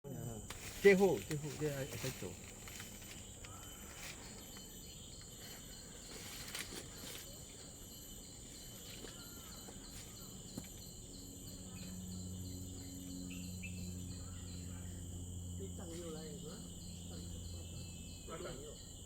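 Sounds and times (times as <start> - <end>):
insects chirring: 0.0 - 19.0
insect pulsing call: 0.1 - 19.0.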